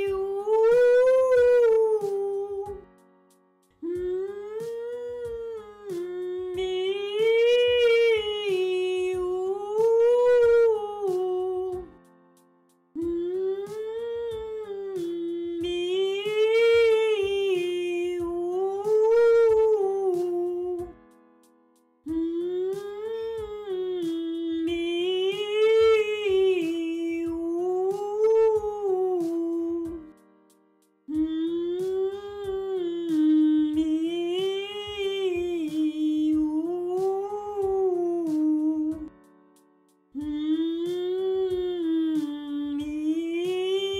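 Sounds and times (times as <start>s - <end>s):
woman singing a vocal warm-up: 0.0s - 2.9s, 3.8s - 12.0s, 13.0s - 21.0s, 22.1s - 30.1s, 31.1s - 39.2s, 40.2s - 43.9s
soft accompaniment: 0.0s - 43.9s.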